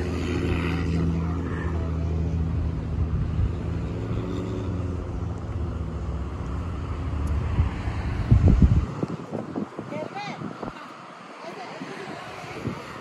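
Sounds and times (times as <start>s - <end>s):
low engine hum: 0.0s - 10.6s.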